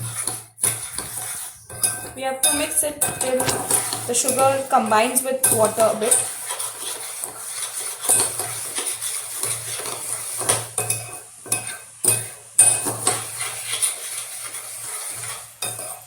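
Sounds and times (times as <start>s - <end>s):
spoon scraping a bowl: 0.0s - 16.0s.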